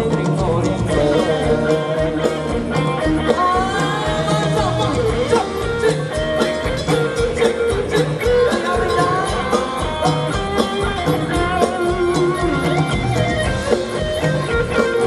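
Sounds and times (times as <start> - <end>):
dance band music: 0.0 - 15.0
steady drum beat: 0.0 - 15.0.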